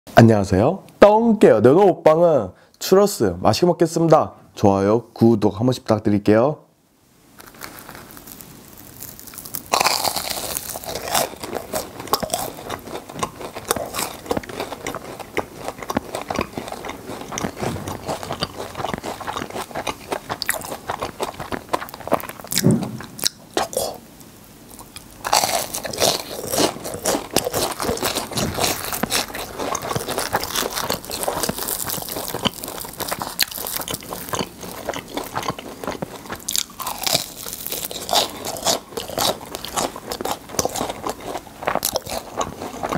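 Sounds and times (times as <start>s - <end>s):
crunchy food being chewed: 7.4s - 42.9s.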